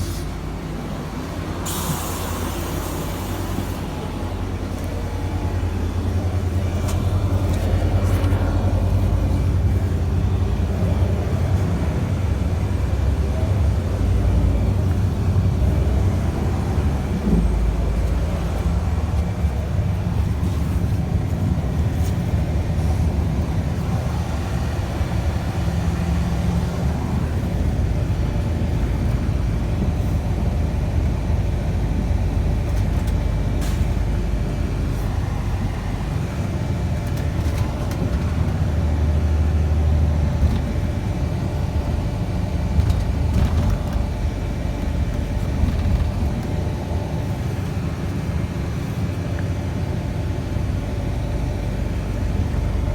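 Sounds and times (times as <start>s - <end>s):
bus engine and road rumble: 0.0s - 52.9s.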